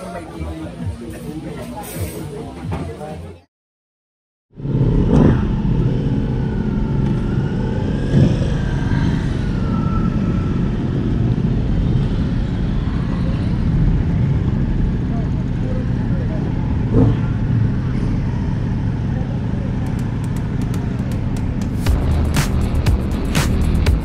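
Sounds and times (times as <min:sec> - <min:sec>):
vehicle engine and road rumble: 0:04.5 - 0:24.0.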